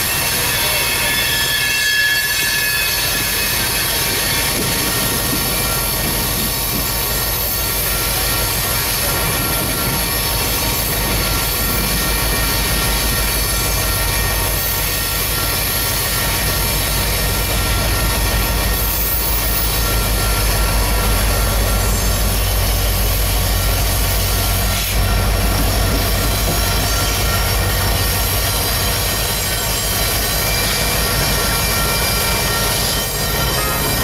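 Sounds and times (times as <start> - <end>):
thin wheel squeal: 0.0 - 34.0
train wheels rumbling on rail: 0.0 - 34.0.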